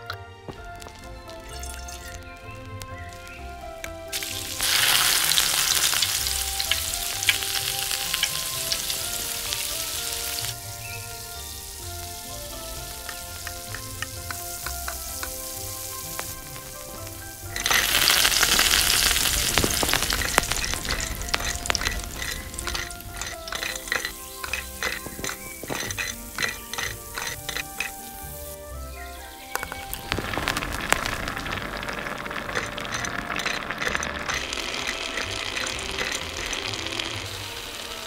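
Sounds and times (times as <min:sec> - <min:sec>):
soft background music: 0:00.0 - 0:38.0
food sizzling in hot oil: 0:00.7 - 0:38.0.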